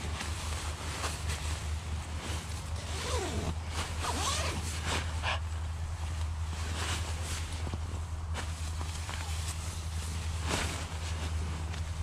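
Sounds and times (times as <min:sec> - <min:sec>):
sleeping bag rustling: 0:00.0 - 0:12.0.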